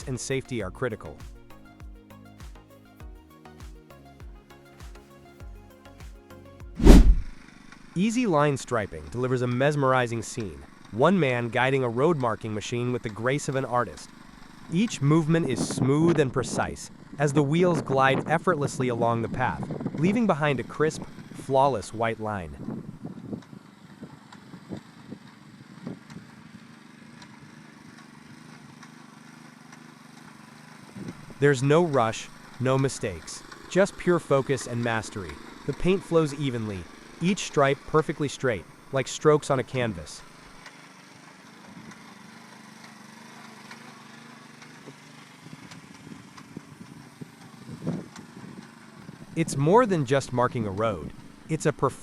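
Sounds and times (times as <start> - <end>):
line-striping machine humming: 0.0 - 52.0
small engine running: 0.0 - 52.0.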